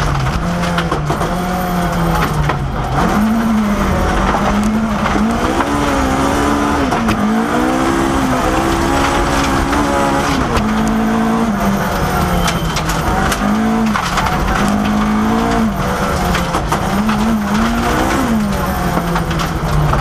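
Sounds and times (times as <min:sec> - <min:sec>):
gravel striking car: 0:00.0 - 0:20.0
rally car engine revving: 0:00.0 - 0:20.0.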